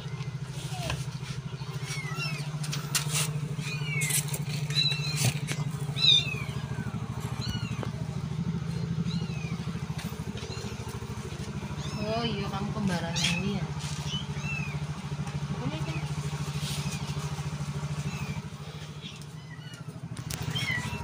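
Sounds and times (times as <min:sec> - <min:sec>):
engine humming: 0:00.0 - 0:21.0
kittens mewing: 0:00.0 - 0:21.0.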